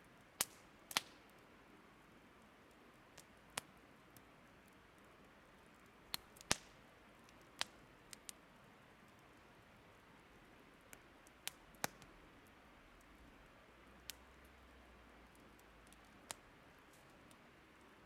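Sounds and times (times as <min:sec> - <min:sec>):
faint steady hiss: 0:00.0 - 0:18.0
firewood crackling: 0:00.1 - 0:18.0.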